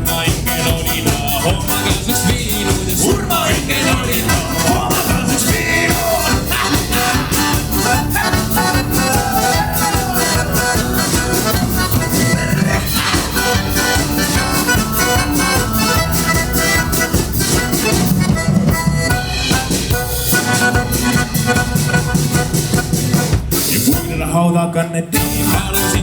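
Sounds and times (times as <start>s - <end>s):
accordion tune: 0.0s - 24.4s, 25.2s - 26.0s
band playing: 0.0s - 24.6s, 25.2s - 26.0s.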